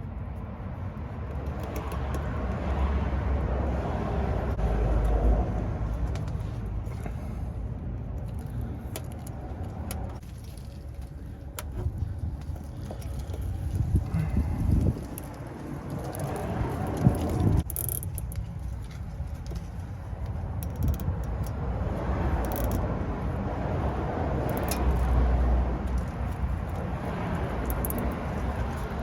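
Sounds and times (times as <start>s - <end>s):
motor vehicle passing: 0.8s - 10.2s, 11.8s - 18.0s, 20.2s - 29.0s.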